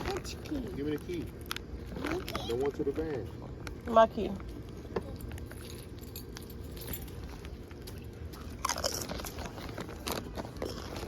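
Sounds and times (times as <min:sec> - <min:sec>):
chewing crunchy chips: 0:00.0 - 0:03.7, 0:04.6 - 0:11.0.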